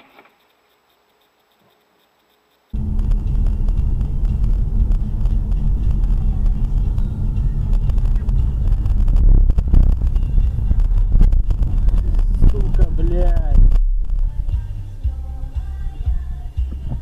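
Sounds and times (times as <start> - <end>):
car engine and road rumble: 2.7 - 17.0.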